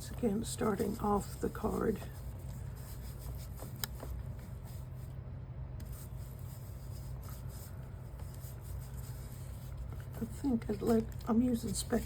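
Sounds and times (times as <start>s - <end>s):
foam tool scrubbing paper: 0.2s - 5.1s, 5.8s - 12.0s.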